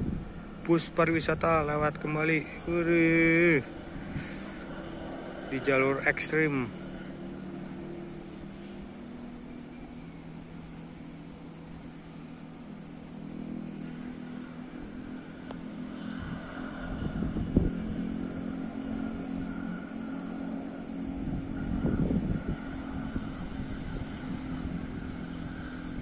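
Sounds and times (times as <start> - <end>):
bus engine passing: 0.0 - 26.0.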